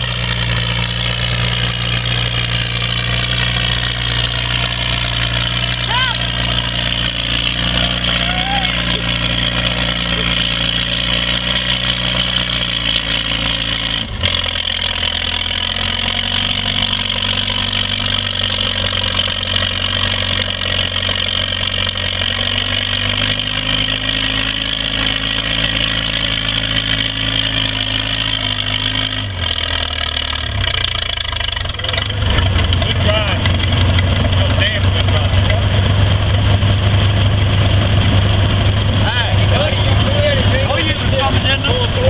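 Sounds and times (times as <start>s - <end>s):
tractor engine under load: 0.0s - 42.0s.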